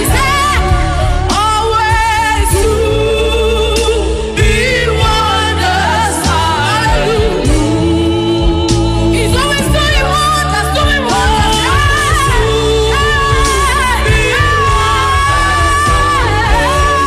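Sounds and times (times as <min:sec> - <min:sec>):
bass: 0:00.0 - 0:17.0
keyboard chords: 0:00.0 - 0:17.0
person singing with vibrato: 0:00.0 - 0:17.0.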